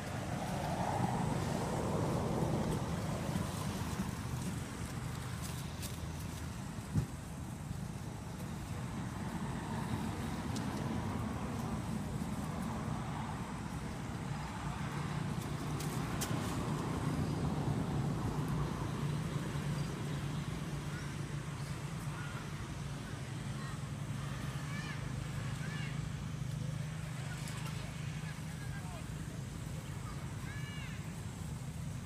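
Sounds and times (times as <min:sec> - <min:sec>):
road traffic engine hum: 0:00.0 - 0:32.0.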